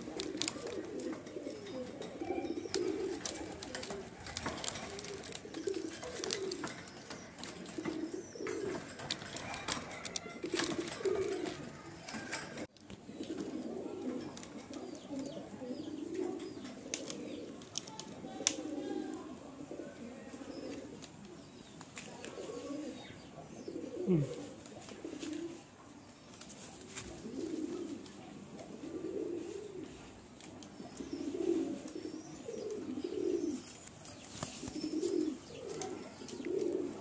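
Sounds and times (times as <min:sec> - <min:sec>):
pigeons cooing: 0:00.0 - 0:37.0.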